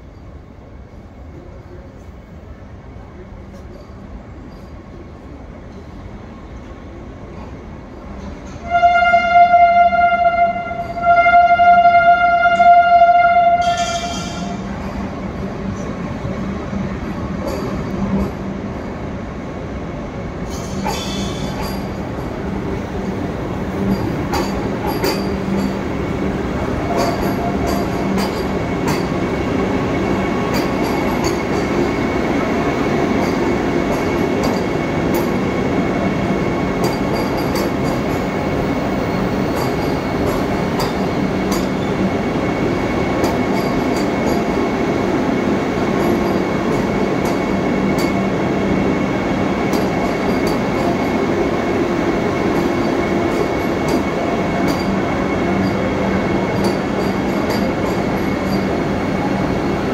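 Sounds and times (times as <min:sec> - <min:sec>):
electric train rolling past: 0:00.0 - 0:59.9.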